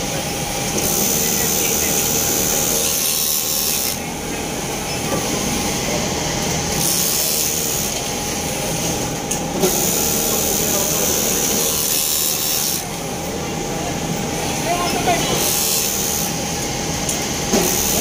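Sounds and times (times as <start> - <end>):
din of other machines: 0.0 - 18.0
overlock machine whirring: 0.0 - 18.0.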